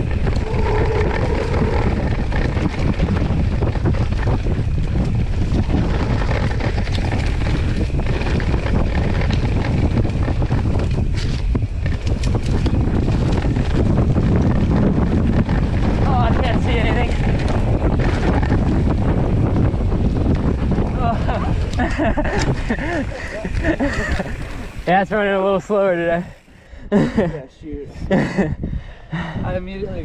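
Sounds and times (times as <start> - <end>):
bike rattles and clicks: 0.0 - 30.0
wind buffeting microphone: 0.0 - 30.0.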